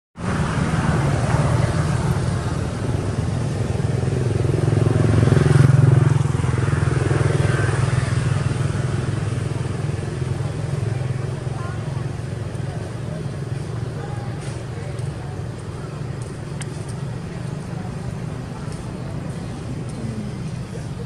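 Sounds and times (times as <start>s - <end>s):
engine humming: 0.2s - 21.0s.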